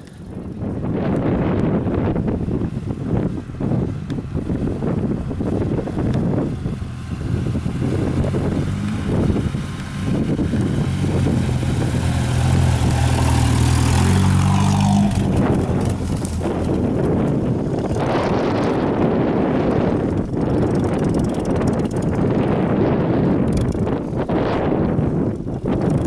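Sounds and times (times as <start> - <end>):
vehicle engine revving under load: 1.9 - 24.0.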